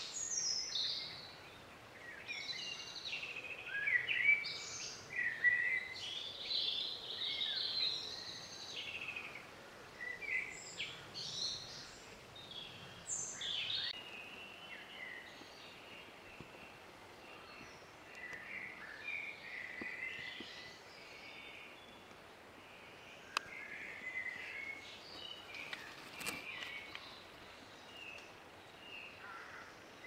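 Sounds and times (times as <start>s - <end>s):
faint background hiss: 0.0s - 30.0s
songbird singing: 0.0s - 30.0s.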